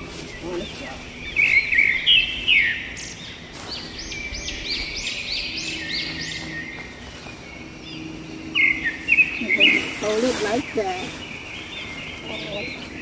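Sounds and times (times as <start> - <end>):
bird singing repeated notes: 0.0 - 13.0
faint outdoor background noise: 0.0 - 13.0.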